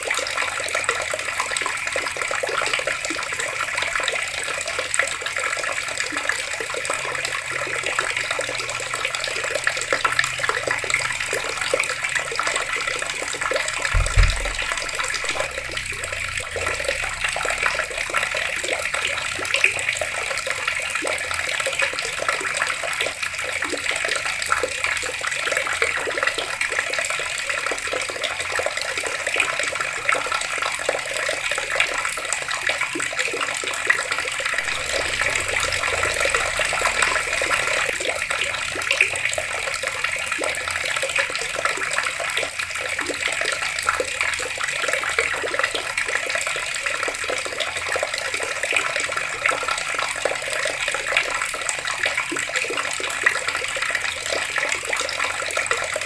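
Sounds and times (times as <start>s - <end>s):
water running from taps: 0.0s - 56.0s.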